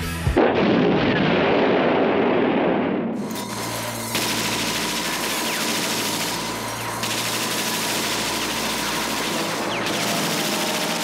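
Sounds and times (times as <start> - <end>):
machine gun automatic fire: 0.4 - 11.0.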